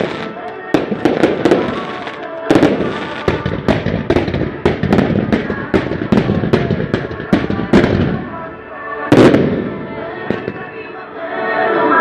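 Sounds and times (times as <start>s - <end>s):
firework crackling: 0.0s - 10.8s.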